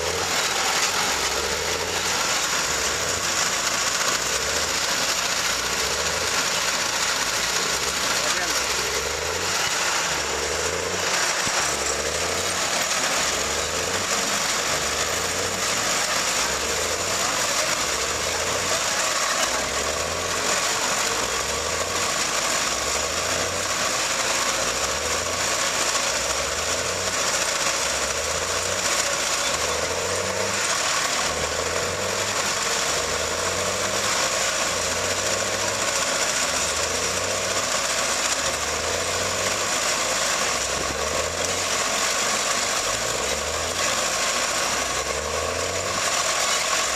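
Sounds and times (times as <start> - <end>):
tractor engine under load: 0.0 - 46.9.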